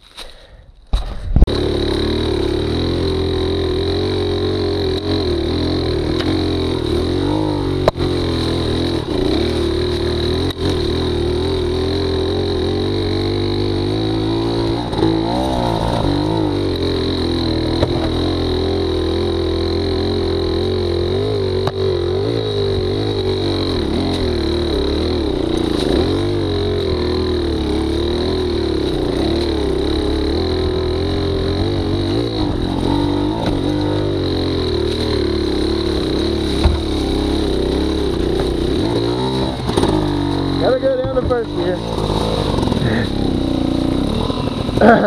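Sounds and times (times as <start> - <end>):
small two-stroke engine running: 1.5 - 45.0.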